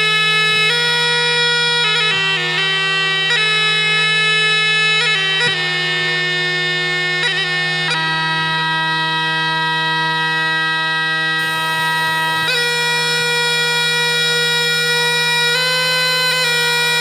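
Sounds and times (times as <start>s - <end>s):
bagpipe tune with drone: 0.0s - 17.0s.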